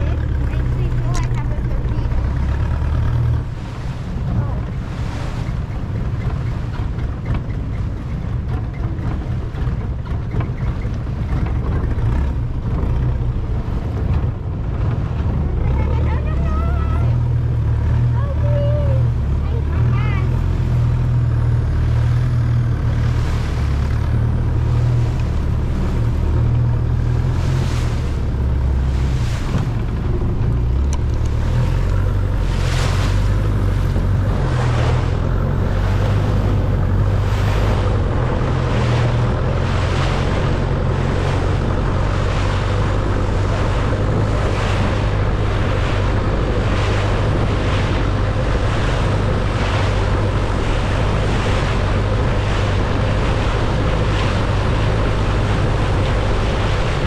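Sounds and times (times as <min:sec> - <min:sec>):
boat engine rumbling: 0:00.0 - 0:57.0
water rushing past hull: 0:00.0 - 0:57.0
wind on microphone: 0:00.0 - 0:57.0.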